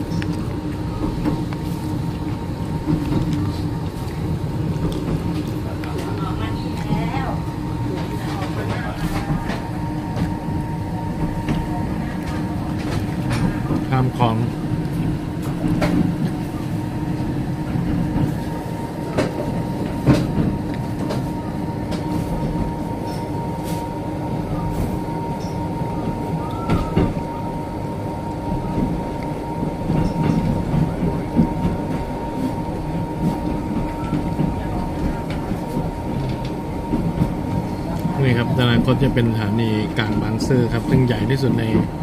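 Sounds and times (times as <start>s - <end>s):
moving train rumble: 0.0s - 42.0s
steady high hum: 0.0s - 42.0s.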